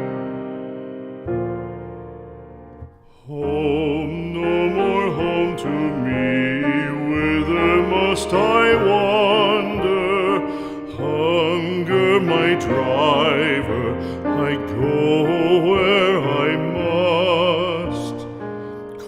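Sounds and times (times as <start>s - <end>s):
gentle melody with vibrato: 0.0s - 19.0s
piano chord: 0.0s - 19.0s.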